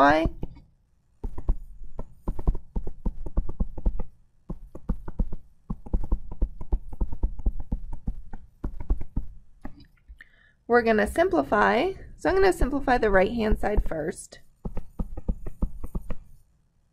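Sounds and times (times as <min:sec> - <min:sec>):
stylus tapping on tablet screen: 0:00.0 - 0:09.9, 0:12.3 - 0:16.4.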